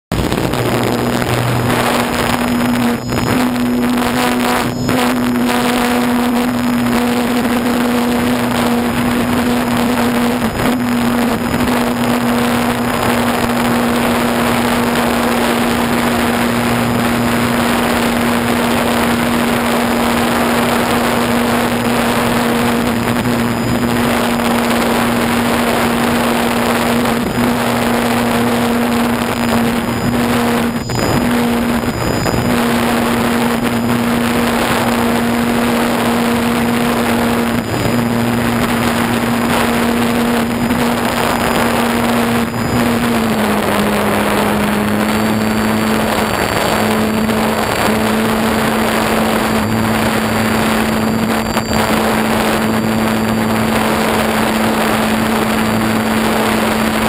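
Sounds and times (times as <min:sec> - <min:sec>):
air rushing over microphone: 0:00.1 - 0:57.0
model airplane motor and propeller: 0:00.1 - 0:57.0.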